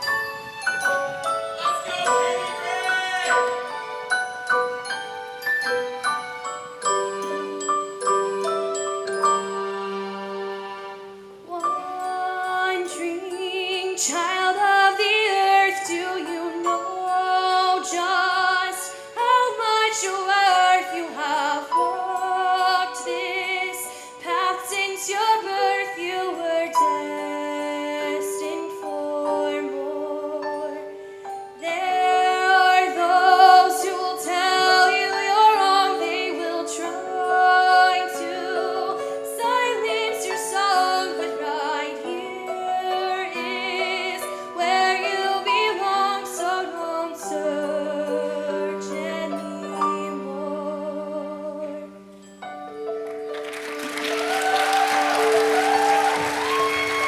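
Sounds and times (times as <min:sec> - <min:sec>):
choir singing in harmony: 0:00.0 - 0:52.1, 0:53.0 - 0:57.0.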